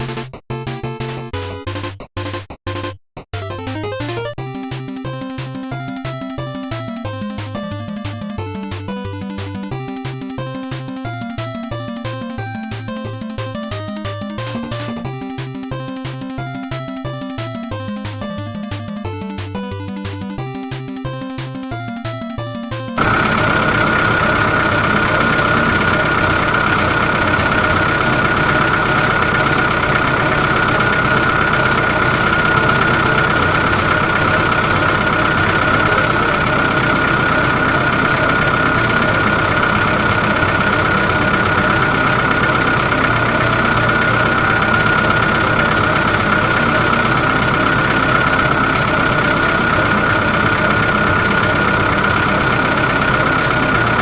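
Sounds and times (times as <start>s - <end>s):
engine running with whine: 5.0s - 18.8s, 23.0s - 54.0s.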